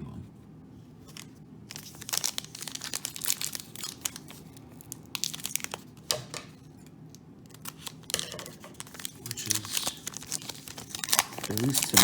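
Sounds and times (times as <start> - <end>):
trading cards rustling and clicking: 1.1 - 6.5, 7.5 - 12.0.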